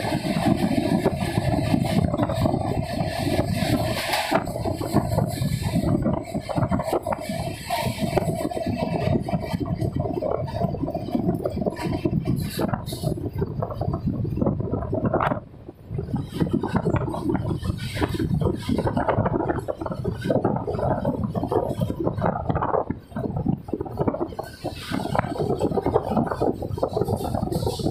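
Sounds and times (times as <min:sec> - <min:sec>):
train wheels rumbling on track: 0:00.0 - 0:27.9
wind buffeting microphone: 0:00.0 - 0:27.9.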